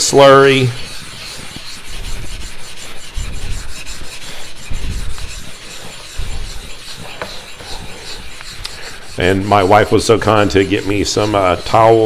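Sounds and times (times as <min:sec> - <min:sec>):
stone rubbing on wet whetstone: 0:00.0 - 0:12.0.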